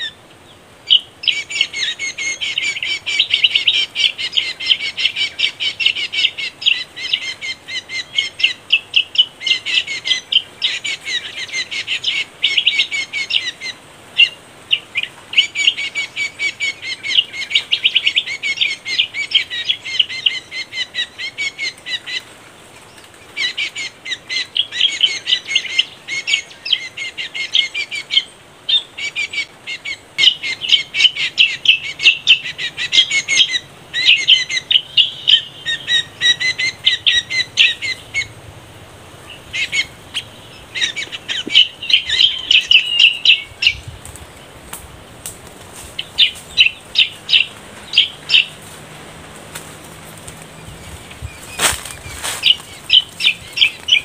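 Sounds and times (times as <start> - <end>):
birds chirping rapidly: 0.0 - 54.0.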